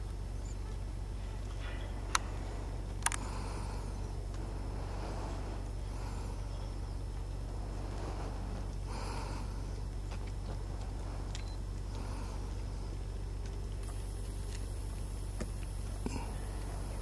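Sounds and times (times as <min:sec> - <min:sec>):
faint clicks: 0:00.0 - 0:17.0
wind rumbling on microphone: 0:00.0 - 0:17.0.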